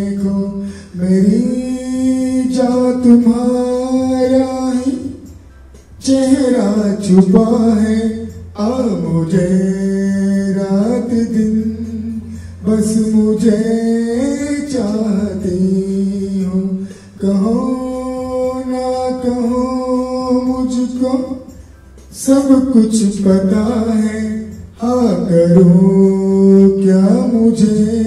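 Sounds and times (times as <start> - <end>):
man singing into a microphone: 0.0 - 5.3, 6.0 - 28.0.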